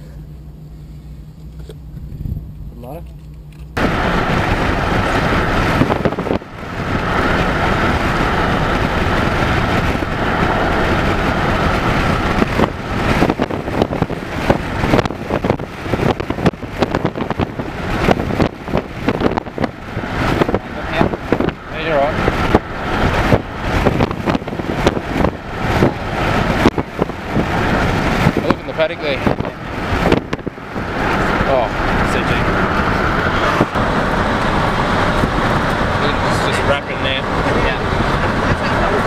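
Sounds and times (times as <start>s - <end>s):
vehicle road noise: 0.0s - 39.0s
wind buffeting microphone: 1.9s - 2.8s, 3.8s - 39.0s.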